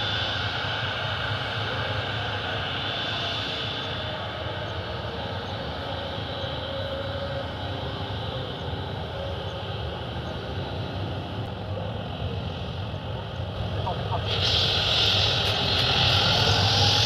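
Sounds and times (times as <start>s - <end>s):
aircraft engine drone: 0.0s - 17.0s.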